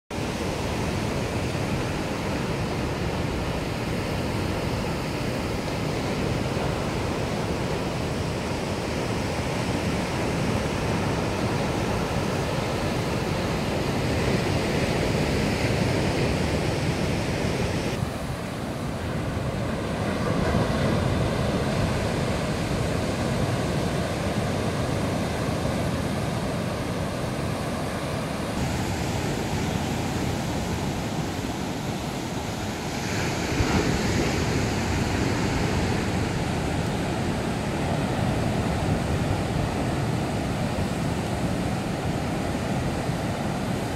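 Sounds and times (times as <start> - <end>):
ocean surf on rocky shore: 0.1 - 43.9.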